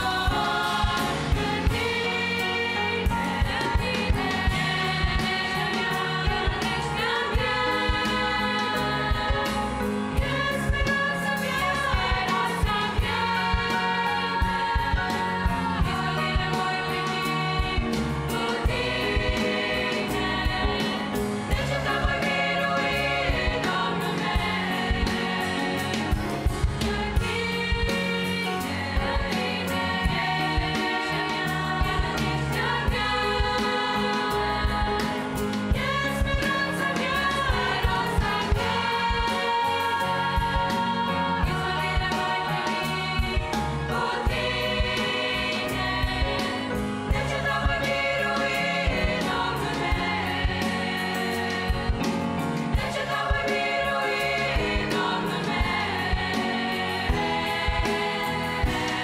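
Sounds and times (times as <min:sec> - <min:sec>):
drum kit beat: 0:00.0 - 0:59.0
girls' choir singing a hymn: 0:00.0 - 0:59.0
piano: 0:00.0 - 0:59.0.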